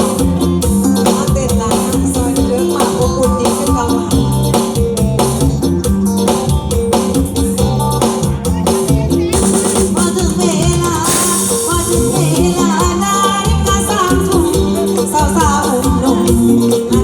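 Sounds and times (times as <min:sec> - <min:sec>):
bass line: 0:00.0 - 0:17.0
drum kit beat: 0:00.0 - 0:17.0.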